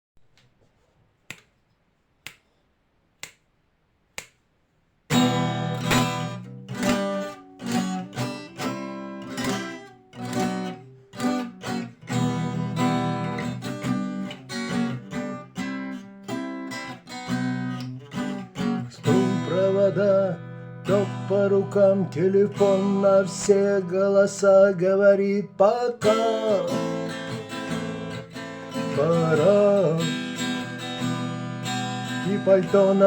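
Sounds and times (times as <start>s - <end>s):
acoustic guitar strumming chords: 5.1s - 33.0s.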